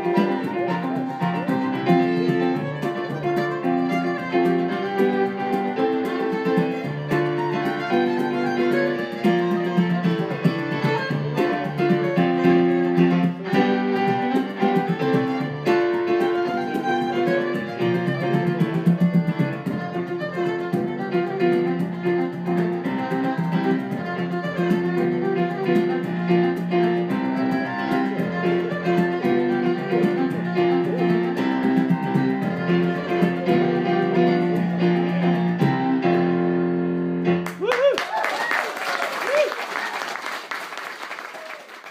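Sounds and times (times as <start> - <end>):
fiddle melody: 0.0 - 37.4
keyboard piano chords: 0.0 - 37.6.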